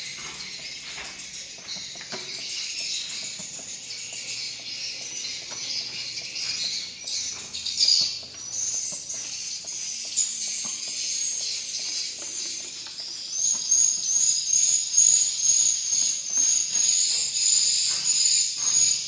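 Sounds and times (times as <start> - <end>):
swiftlets twittering: 0.0 - 17.9.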